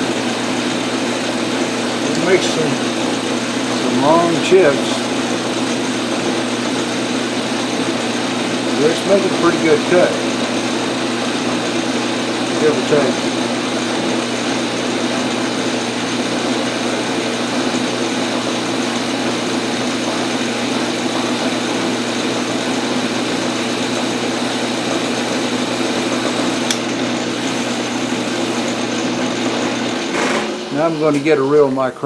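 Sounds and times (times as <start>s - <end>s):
metal lathe humming: 0.0s - 32.0s.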